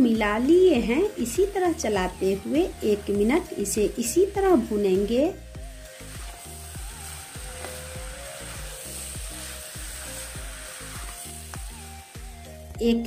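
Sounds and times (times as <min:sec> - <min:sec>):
background music with beat: 0:00.0 - 0:13.0
meat sizzling in hot oil: 0:00.0 - 0:13.0.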